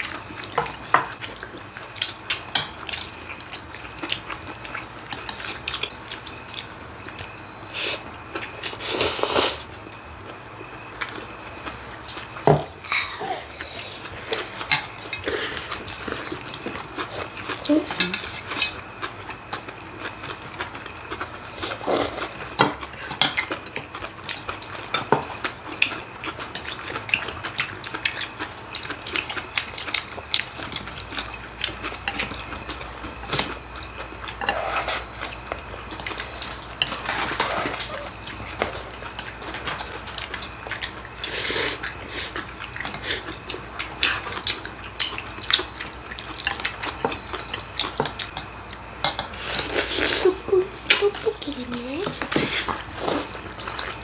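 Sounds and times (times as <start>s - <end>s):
chewing and slurping: 0.0s - 54.0s.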